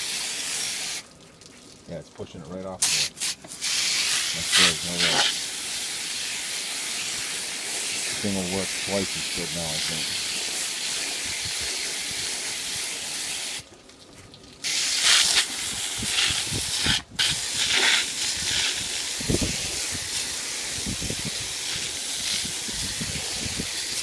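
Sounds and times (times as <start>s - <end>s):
hose spraying water: 0.0s - 1.1s, 2.7s - 13.7s, 14.6s - 24.0s.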